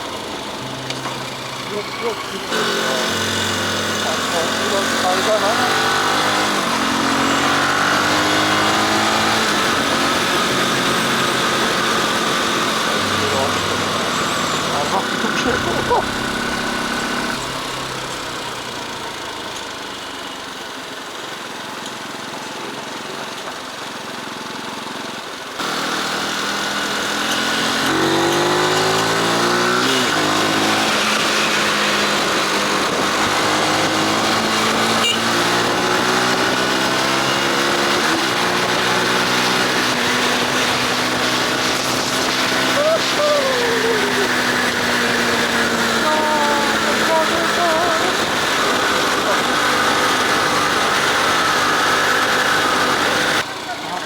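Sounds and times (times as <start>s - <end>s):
motorcycle engine accelerating: 0.0s - 23.1s, 24.0s - 54.0s.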